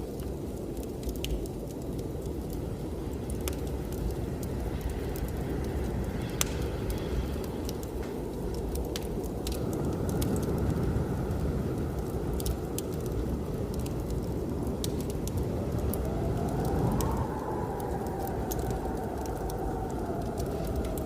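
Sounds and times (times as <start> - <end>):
blizzard wind howling: 0.0 - 21.0
fireplace fire crackling: 0.0 - 21.0.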